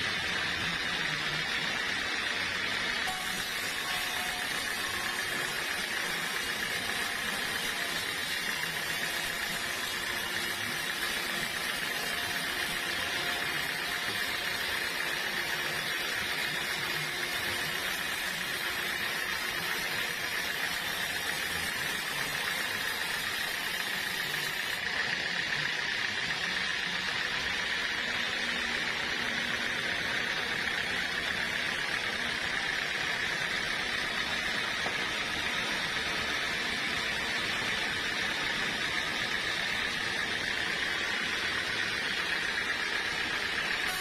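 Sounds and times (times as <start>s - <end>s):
sawmill machinery running: 0.0s - 44.0s.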